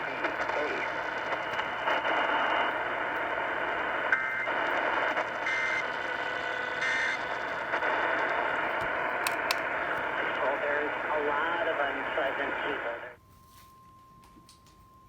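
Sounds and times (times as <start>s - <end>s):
radio static: 0.0s - 13.2s.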